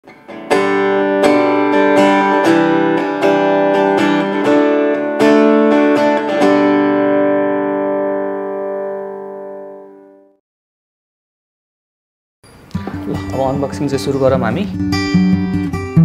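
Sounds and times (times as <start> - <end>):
guitar chords strummed: 0.0 - 10.4, 12.4 - 16.0.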